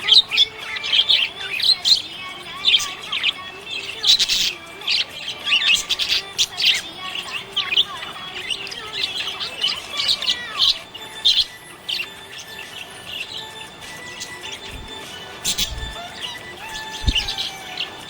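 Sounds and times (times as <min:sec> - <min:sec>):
budgerigar chirping: 0:00.0 - 0:18.0.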